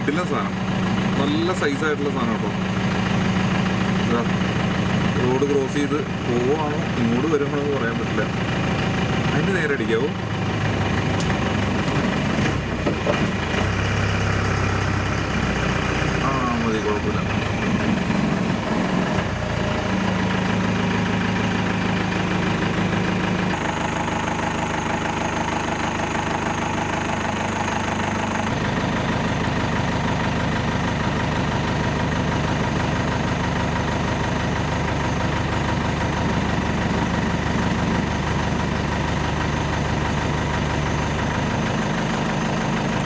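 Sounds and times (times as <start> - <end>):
jeep engine idling: 0.0 - 43.0.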